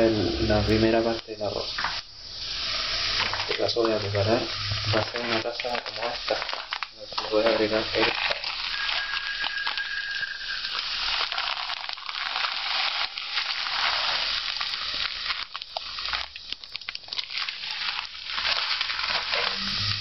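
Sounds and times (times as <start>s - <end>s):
garlic sizzling in hot oil: 0.0s - 20.0s
rice grains pouring into mug: 0.2s - 20.0s.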